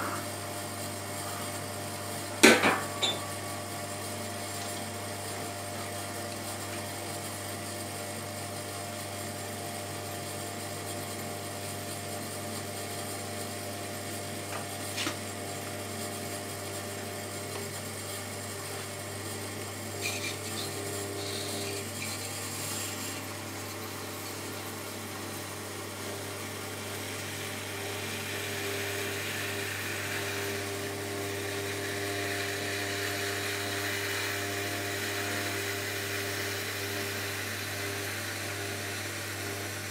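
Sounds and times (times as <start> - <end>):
potter's wheel motor humming: 0.0 - 39.9.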